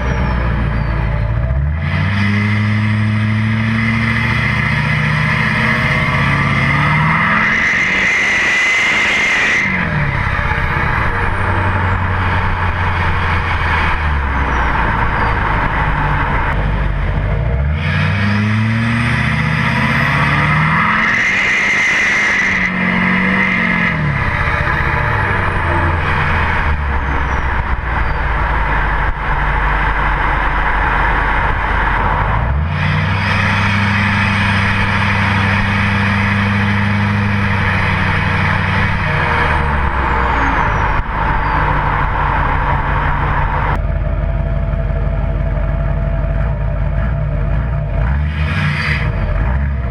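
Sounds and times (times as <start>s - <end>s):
diesel truck engine accelerating: 0.0s - 49.9s
wind and road noise: 0.0s - 49.9s.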